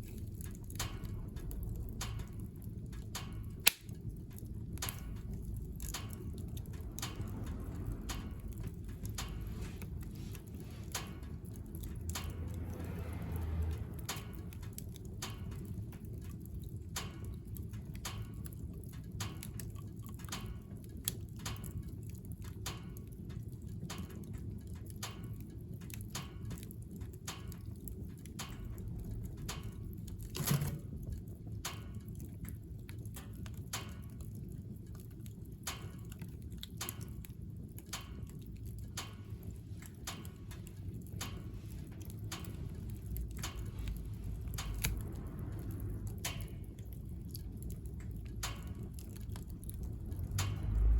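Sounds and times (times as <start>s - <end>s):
low steady rumble: 0.0s - 50.9s
wood fire crackling in stove: 0.0s - 50.9s.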